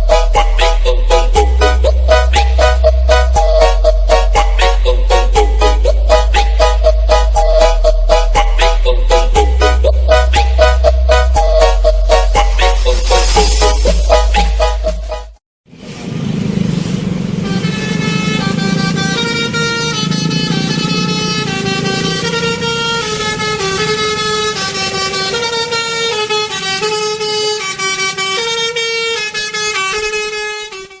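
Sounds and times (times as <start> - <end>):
multi-tone bus air horn melody: 0.0 - 15.4, 17.3 - 31.0.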